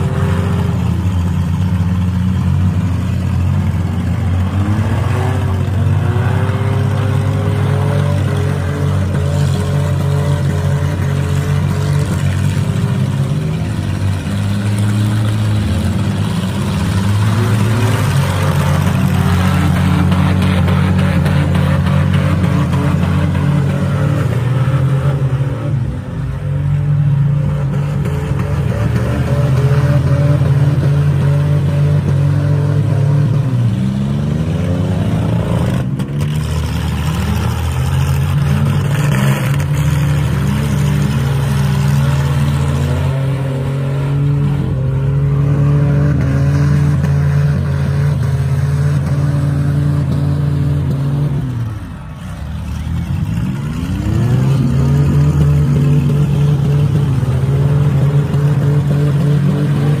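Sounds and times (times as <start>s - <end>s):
engines revving: 0.0s - 60.0s.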